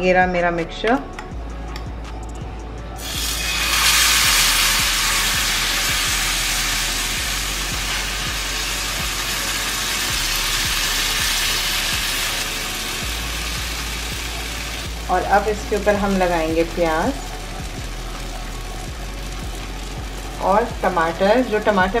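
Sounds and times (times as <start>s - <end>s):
batter sizzling on a hot pan: 3.0s - 22.0s.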